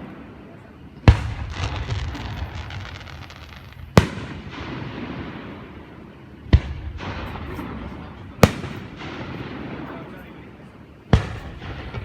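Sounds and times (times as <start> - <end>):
firework bangs with echoing rumble: 0.0 - 12.0
low background noise: 0.0 - 12.0.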